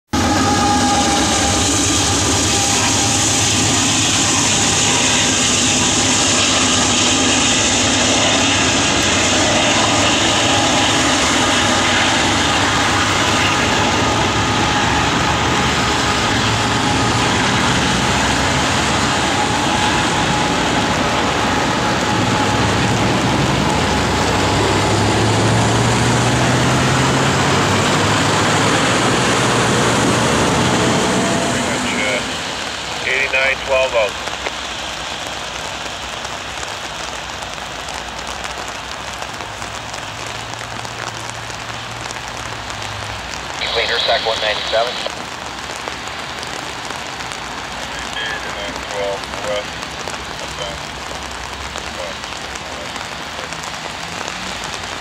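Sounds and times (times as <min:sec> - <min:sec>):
diesel locomotive engine: 0:00.1 - 0:55.0
freight train wheels rumbling: 0:00.1 - 0:55.0
heavy rain hissing: 0:00.2 - 0:55.0.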